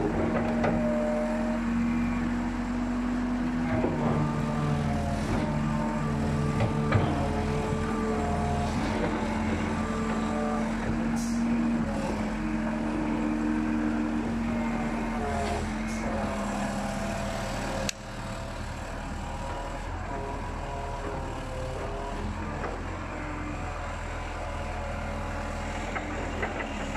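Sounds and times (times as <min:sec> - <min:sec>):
excavator diesel engine under load: 0:00.0 - 0:26.9
hydraulic whine: 0:00.0 - 0:26.9.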